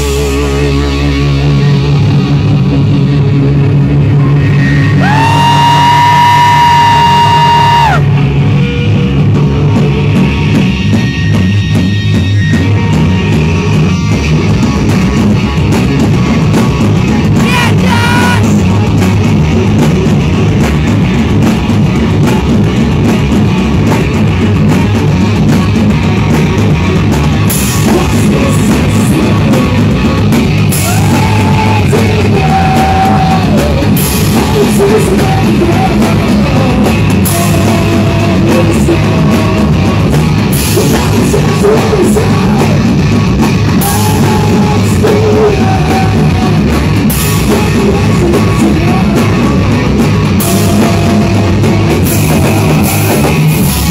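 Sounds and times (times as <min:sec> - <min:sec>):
drum kit: 0:00.0 - 0:53.9
electric guitar: 0:00.0 - 0:53.9
rock band playing live: 0:00.0 - 0:53.9.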